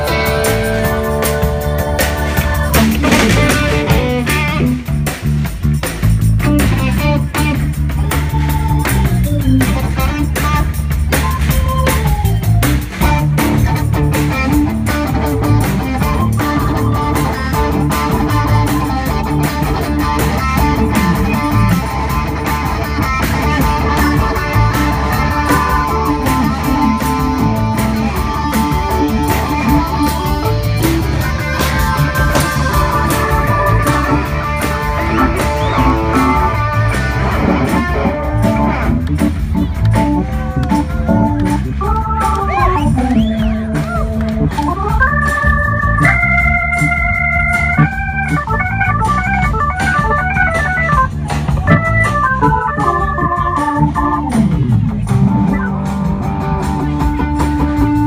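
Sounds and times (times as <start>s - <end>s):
drum kit steady beat: 0.0s - 58.0s
electric guitars: 0.0s - 58.0s.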